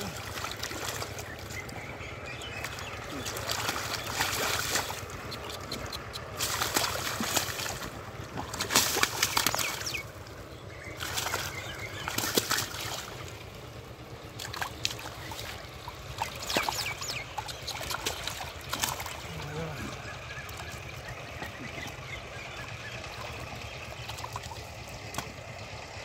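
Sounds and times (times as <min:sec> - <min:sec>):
muddy water sloshing and splashing: 0:00.0 - 0:26.0.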